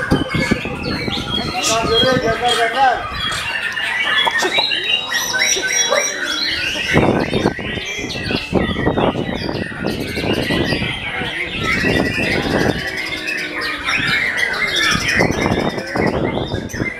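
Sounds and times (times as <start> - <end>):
birds singing: 0.0 - 16.9.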